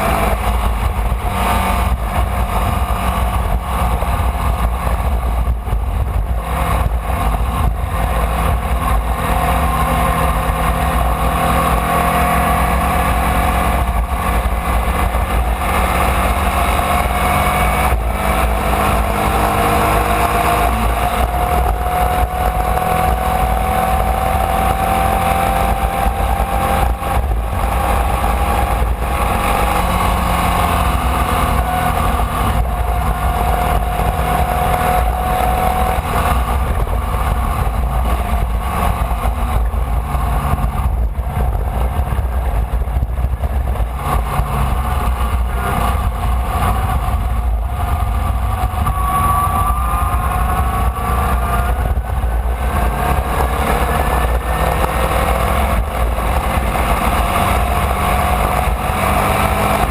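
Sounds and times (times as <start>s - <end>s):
race car engine running hard: 0.0s - 59.9s
wind and road noise: 0.0s - 59.9s.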